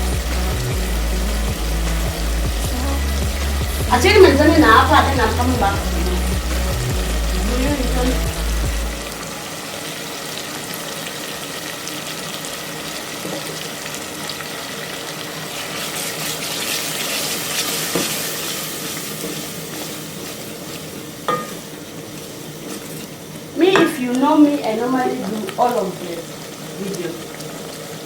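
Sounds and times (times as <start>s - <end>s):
sauce sizzling in a pan: 0.0s - 28.0s.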